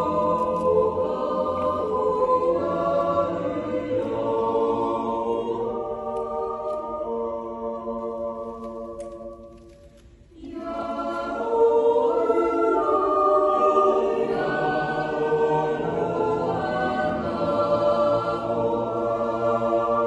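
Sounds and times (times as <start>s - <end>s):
choir yodelling unaccompanied: 0.0s - 9.5s, 10.4s - 20.0s.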